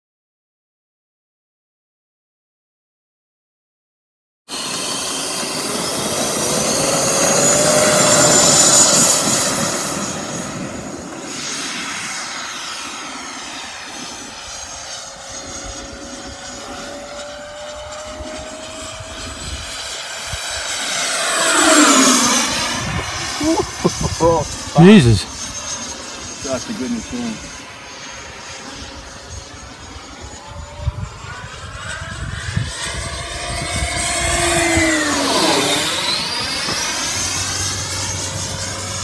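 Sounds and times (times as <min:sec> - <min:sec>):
electric jet whining past: 0:04.5 - 0:39.0.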